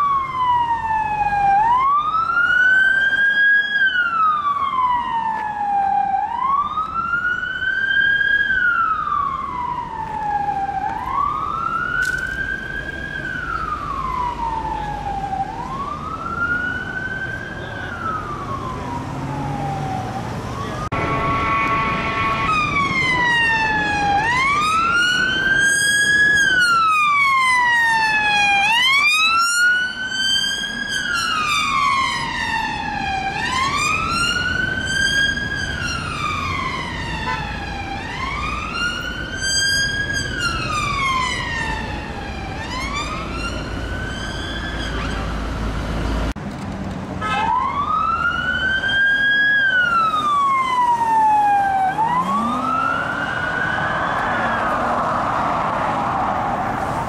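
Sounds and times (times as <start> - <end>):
police siren wailing: 0.0 - 45.6, 47.2 - 57.0
road traffic noise: 0.0 - 57.0.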